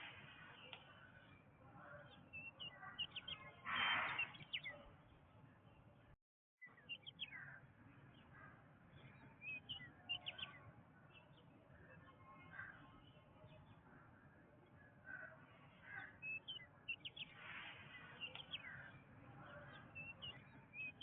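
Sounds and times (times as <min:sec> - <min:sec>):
birds chirping: 0:00.0 - 0:06.0, 0:06.6 - 0:21.0.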